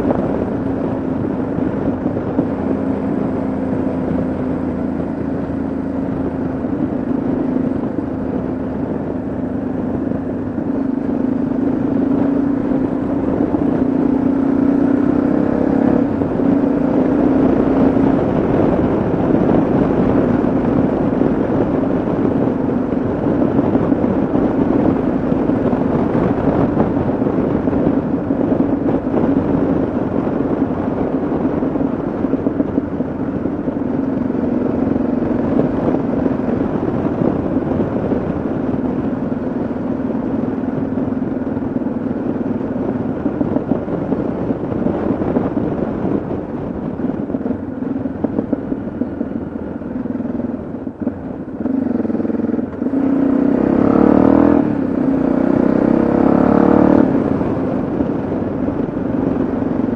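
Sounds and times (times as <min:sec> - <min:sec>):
motorcycle engine running: 0:00.0 - 0:59.9
wind rush: 0:00.0 - 0:59.9.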